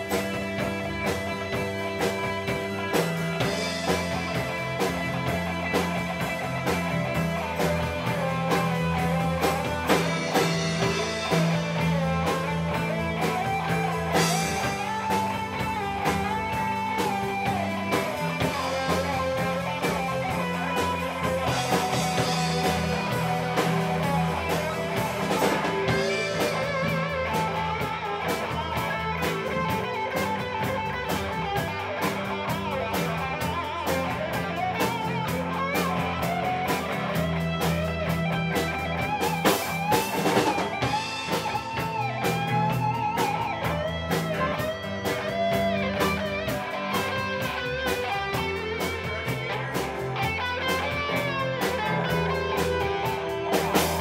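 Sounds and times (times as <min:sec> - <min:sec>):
lead guitar bent notes: 0:00.0 - 0:54.0
rock band playing: 0:00.0 - 0:54.0.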